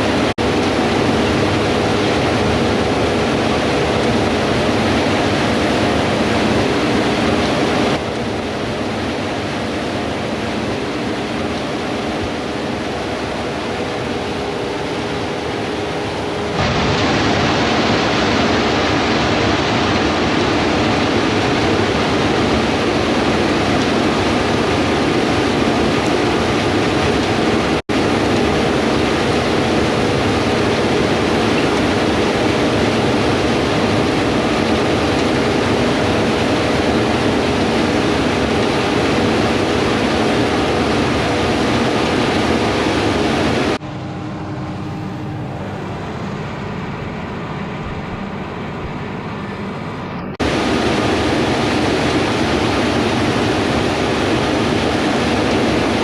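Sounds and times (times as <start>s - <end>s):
combine harvester engines humming: 0.0s - 56.0s
rushing wind: 0.0s - 56.0s.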